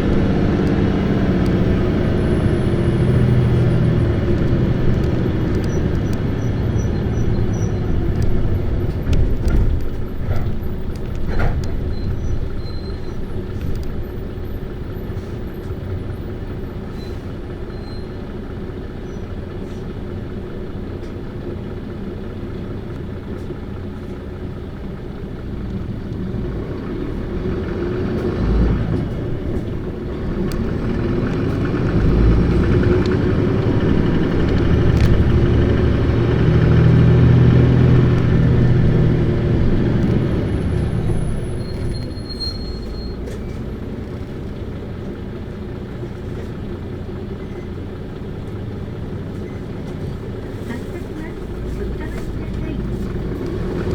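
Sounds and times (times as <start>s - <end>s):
bus diesel engine revving: 0.0s - 53.9s.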